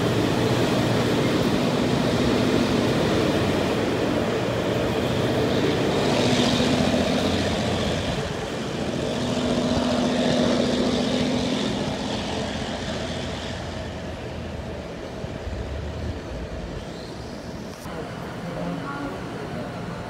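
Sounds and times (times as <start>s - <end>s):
diesel locomotive engine drone: 0.0s - 20.0s
train rolling noise: 0.0s - 20.0s.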